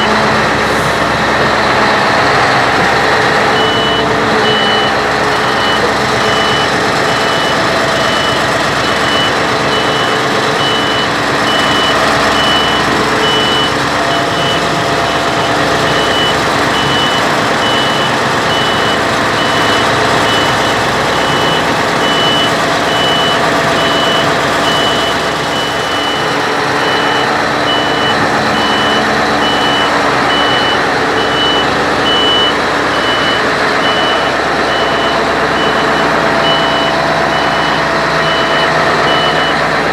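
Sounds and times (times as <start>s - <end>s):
reversing alarm beeping: 0.0s - 39.8s
heavy diesel machinery running: 0.0s - 39.9s.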